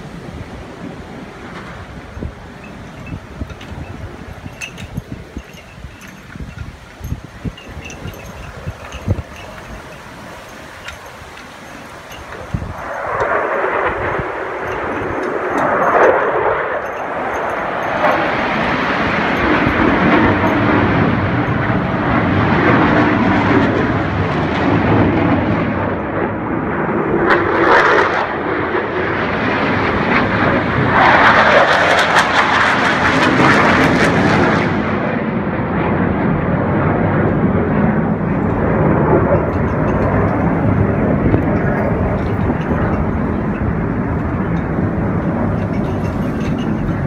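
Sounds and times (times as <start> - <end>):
aircraft flying overhead: 0.0 - 47.0.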